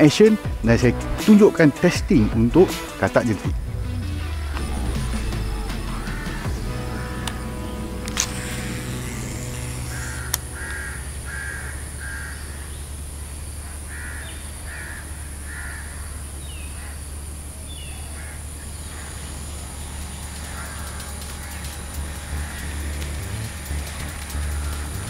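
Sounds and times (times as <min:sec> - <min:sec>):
steady low rumble: 0:03.5 - 0:16.4, 0:17.1 - 0:25.0
crow cawing: 0:04.6 - 0:25.0.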